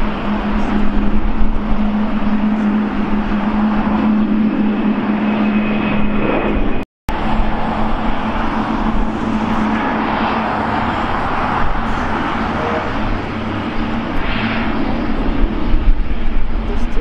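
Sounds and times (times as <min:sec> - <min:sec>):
jet engines taxiing: 0:00.0 - 0:17.0
road traffic: 0:00.0 - 0:17.0.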